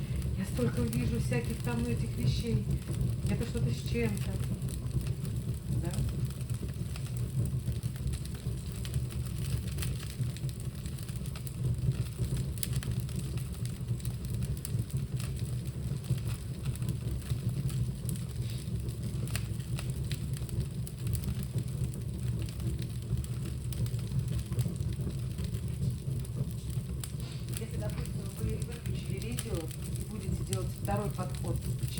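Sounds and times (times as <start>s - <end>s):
fire burning in a fireplace: 0.0s - 31.9s
fire crackles and pops: 0.0s - 31.9s.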